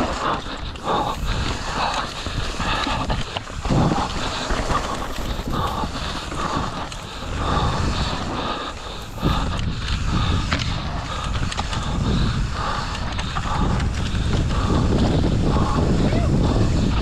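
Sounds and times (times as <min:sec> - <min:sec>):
bike tyres rumbling: 0:00.0 - 0:17.0
wind buffeting microphone: 0:00.0 - 0:17.0.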